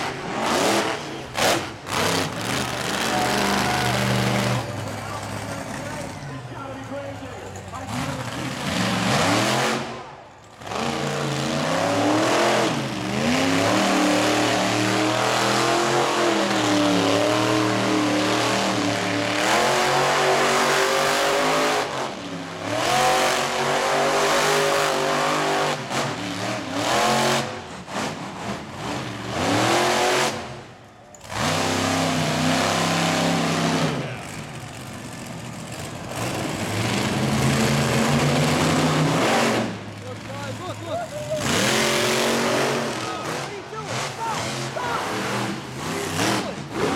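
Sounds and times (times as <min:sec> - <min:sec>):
monster truck engines revving: 0:00.0 - 0:46.9.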